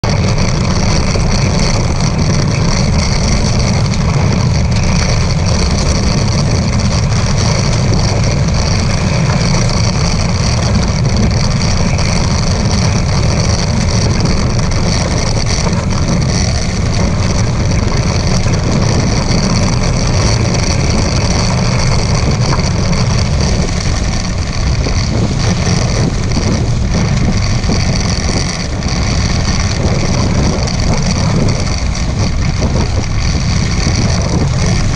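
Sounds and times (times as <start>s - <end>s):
water rushing along hulls: 0.0s - 34.9s
wind buffeting microphone: 0.0s - 34.9s.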